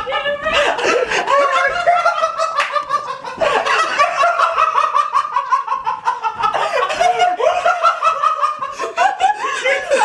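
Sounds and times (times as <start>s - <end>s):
man laughing: 0.5s - 10.0s.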